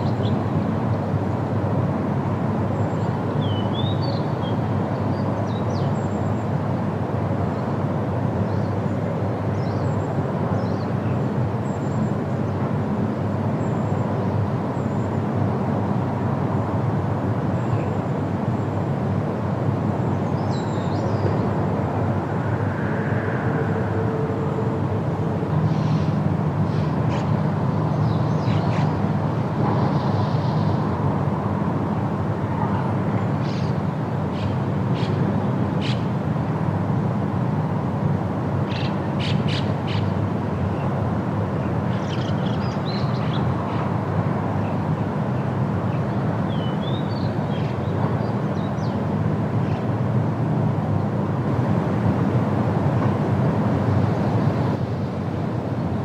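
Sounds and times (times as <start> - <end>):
wind through tree leaves: 0.0 - 56.0.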